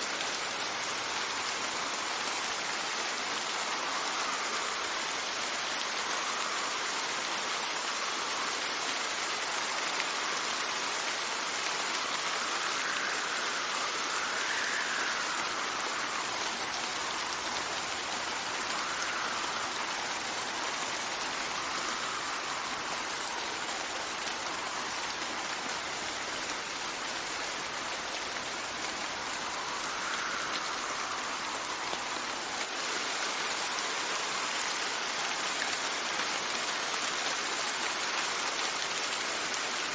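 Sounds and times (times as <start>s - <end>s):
steady rain: 0.0s - 39.9s
wind gusts: 0.0s - 39.9s.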